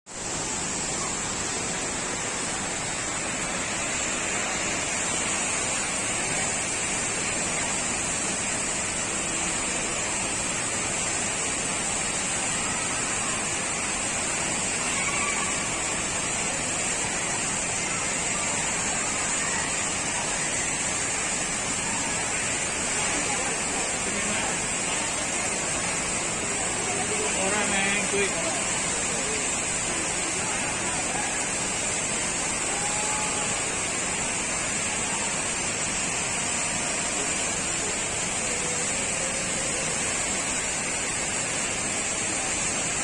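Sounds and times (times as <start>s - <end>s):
indoor waterfall roaring: 0.1s - 43.0s.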